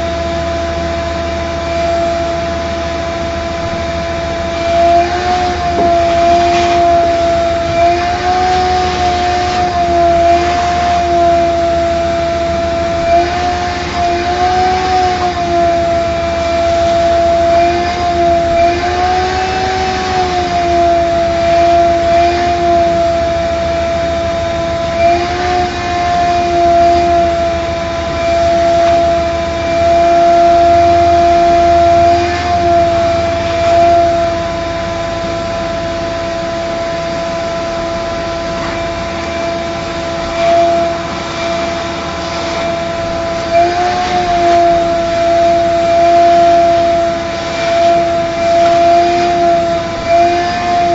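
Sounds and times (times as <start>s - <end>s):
vacuum cleaner whine: 0.0s - 50.9s.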